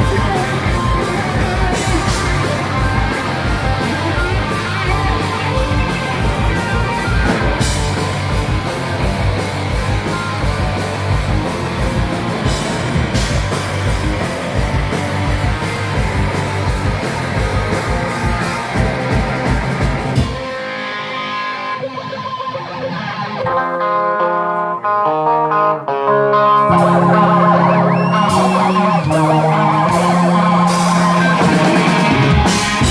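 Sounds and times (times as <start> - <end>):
fast drumming: 0.0 - 22.8, 26.7 - 32.9
electric guitar picking notes: 0.0 - 32.9
rock band playing: 0.0 - 32.9.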